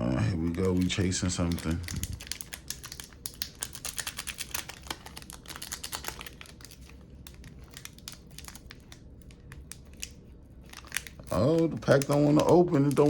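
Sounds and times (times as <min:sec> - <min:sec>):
foil wrapper crackling: 0:00.2 - 0:13.0.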